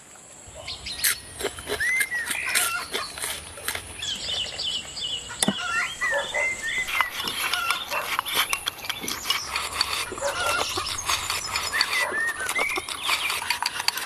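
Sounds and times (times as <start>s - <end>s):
bird-like chirps: 0.5s - 3.4s, 4.0s - 14.0s.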